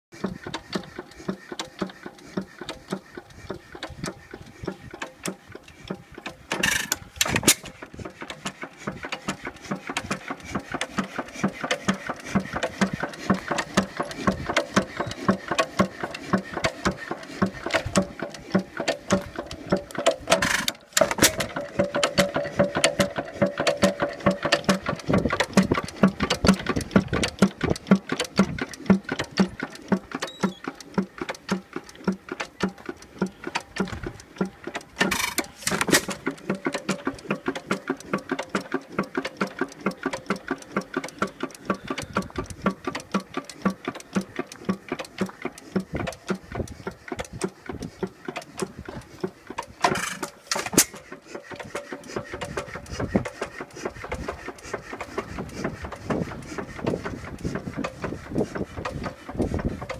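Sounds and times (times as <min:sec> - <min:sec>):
engine clicking steadily: 0:00.1 - 0:59.9
engine bursts: 0:00.2 - 0:59.9.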